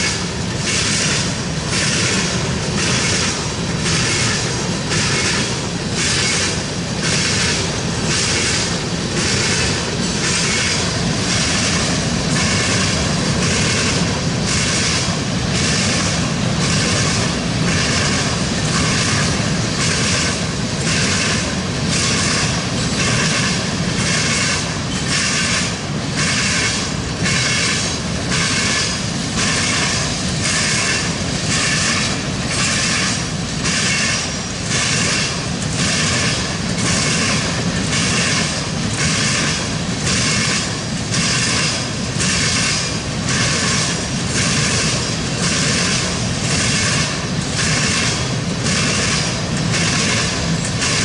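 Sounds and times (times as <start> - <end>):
freight train rolling past: 0.0 - 51.0
steel wheels clacking: 0.0 - 51.0.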